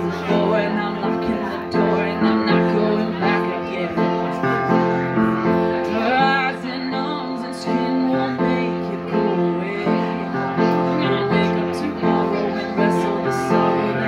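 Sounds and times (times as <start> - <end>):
women singing into microphones: 0.0 - 4.5, 5.8 - 14.0
instrumental accompaniment: 0.0 - 14.0.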